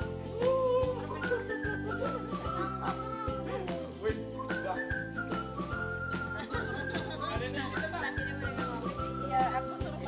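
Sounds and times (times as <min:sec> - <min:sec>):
whistle-like melody with beat: 0:00.0 - 0:10.0.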